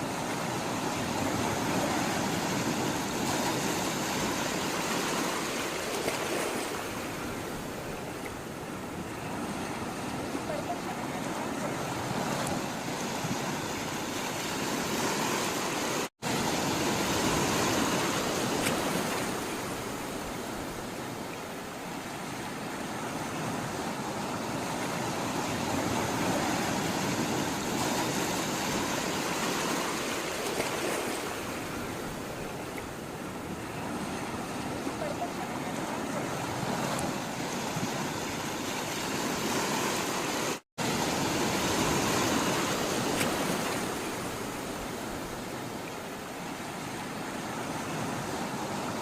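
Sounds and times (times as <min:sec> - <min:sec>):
sea water washing and surging: 0:00.0 - 0:49.0.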